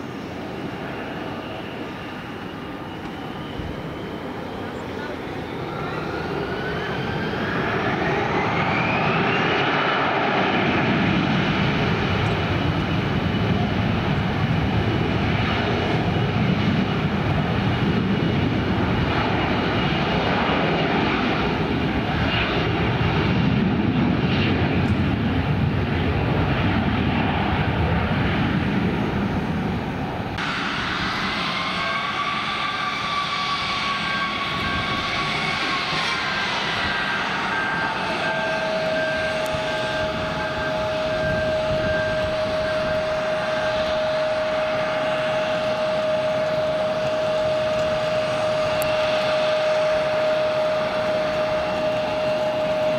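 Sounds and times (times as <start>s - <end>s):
jet engines whining: 0.0s - 52.9s.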